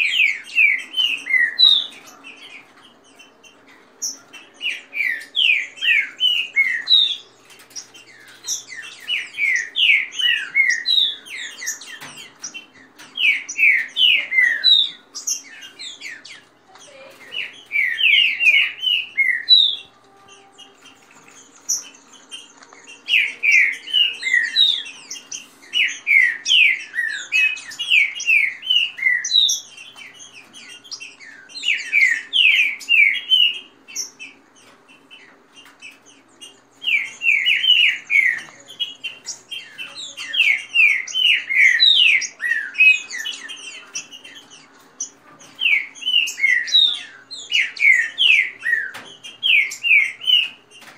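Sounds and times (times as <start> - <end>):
birds whistling song phrases: 0.0 - 50.9.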